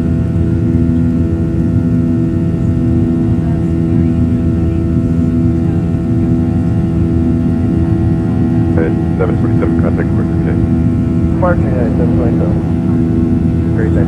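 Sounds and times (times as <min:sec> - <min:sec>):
jet engine drone in cabin: 0:00.0 - 0:14.0
steady humming tones: 0:00.0 - 0:14.0.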